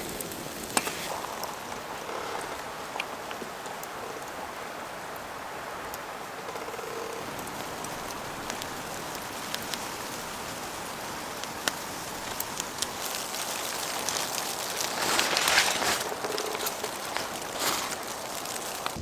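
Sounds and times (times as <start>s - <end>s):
raindrops ticking on surfaces: 0.0s - 19.0s
steady rain falling: 0.0s - 19.0s.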